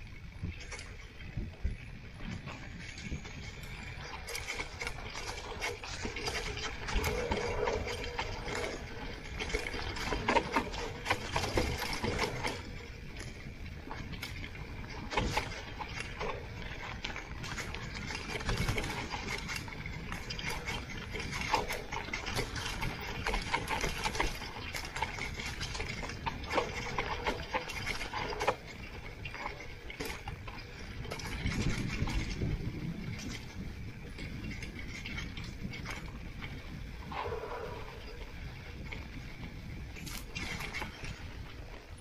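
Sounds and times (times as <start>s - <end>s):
bike rattling and knocking: 0.0s - 42.0s
tyre and wind rush: 0.0s - 42.0s.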